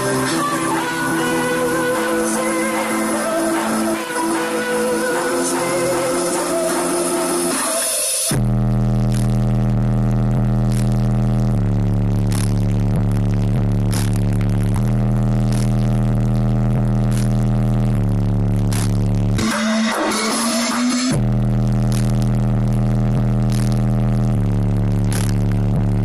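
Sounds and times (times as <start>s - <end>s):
bass-heavy music in a car: 0.0s - 26.0s.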